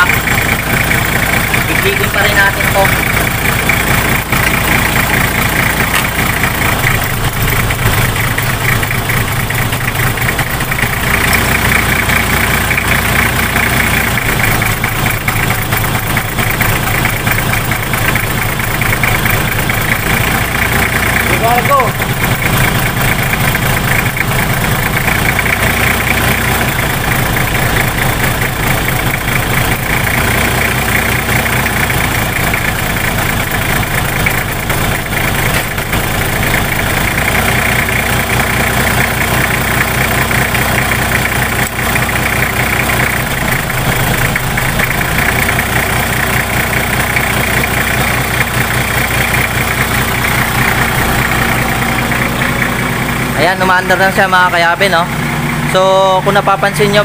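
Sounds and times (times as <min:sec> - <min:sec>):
diesel engine idling with knock: 0:00.0 - 0:57.0.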